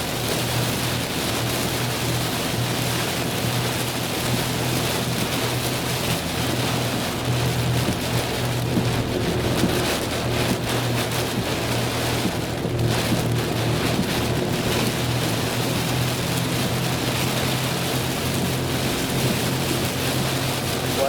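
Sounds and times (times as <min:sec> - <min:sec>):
engine and tyre drone: 0:00.0 - 0:21.0
heavy rain on car roof: 0:00.0 - 0:21.0.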